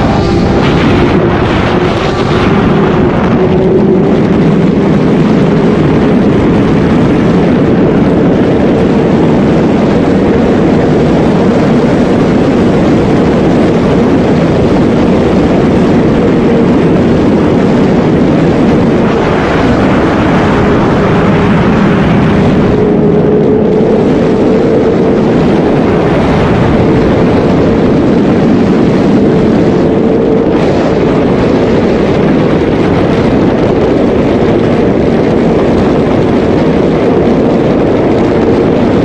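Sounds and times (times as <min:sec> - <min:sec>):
heavy wind rush: 0:00.0 - 0:39.0
motorcycle engine at high revs: 0:00.0 - 0:39.0.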